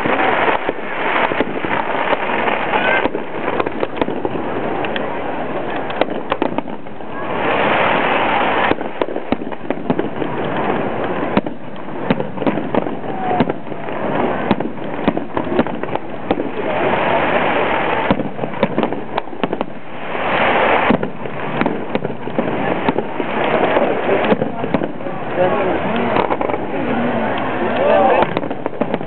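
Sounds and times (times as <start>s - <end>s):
firework hiss: 0.0s - 29.0s
firework shells bursting: 0.0s - 29.0s.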